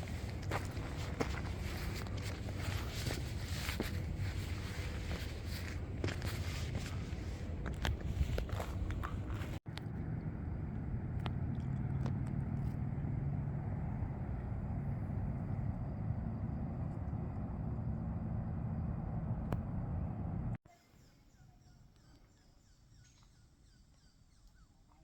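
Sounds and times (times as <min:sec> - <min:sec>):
motor vehicle rumbling: 0:00.0 - 0:20.6.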